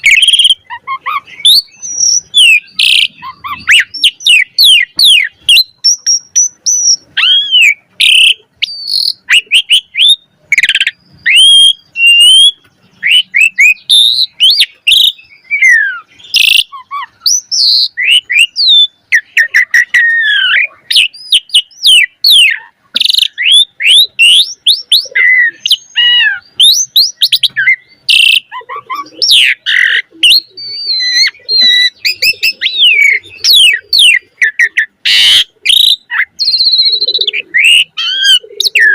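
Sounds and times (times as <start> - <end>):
harsh rasping bird notes: 0.0 - 38.9
starling whistles and chirps: 0.0 - 38.9.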